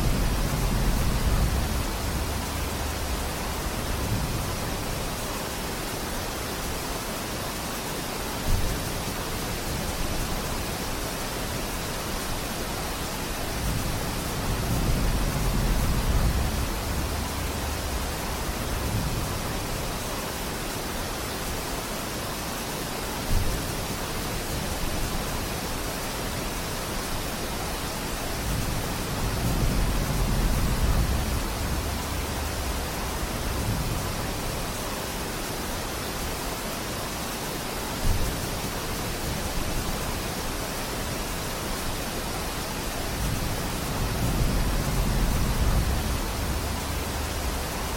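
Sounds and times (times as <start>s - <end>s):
rain falling on foliage: 0.0s - 47.9s.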